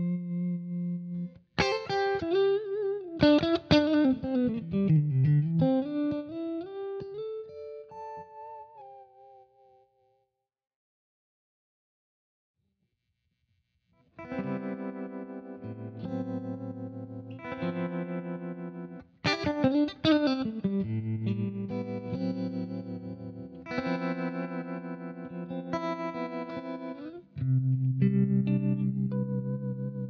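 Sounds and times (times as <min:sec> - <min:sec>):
electric guitar chords with vibe: 0:00.0 - 0:09.4, 0:14.2 - 0:30.0.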